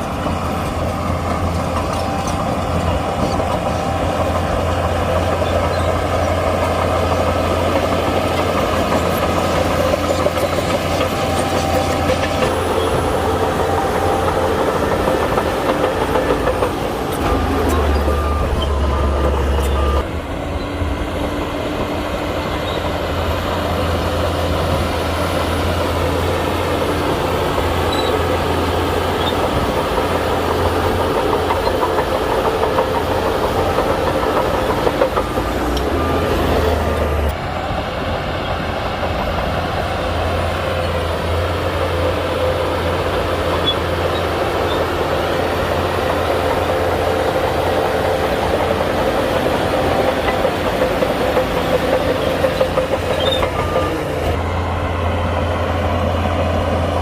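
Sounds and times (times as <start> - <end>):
bulldozer diesel engine running: 0.0 - 57.0
steel tracks clanking: 0.0 - 57.0.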